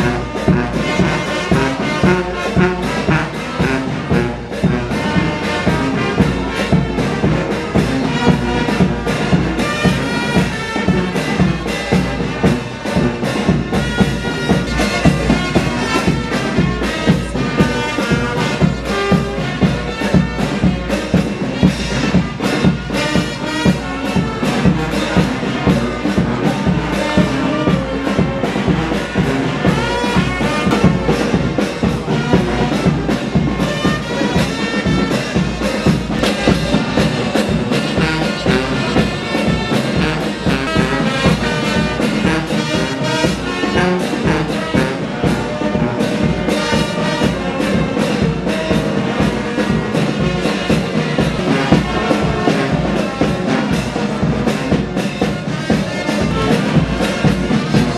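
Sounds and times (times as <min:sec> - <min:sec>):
music with brass and steady beat: 0:00.0 - 0:57.9.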